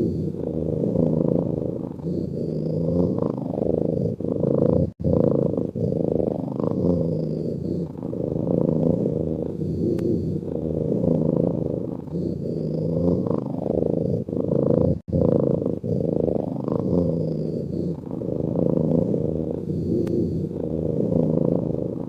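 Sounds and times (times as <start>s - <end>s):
cat snoring: 0.0s - 22.0s.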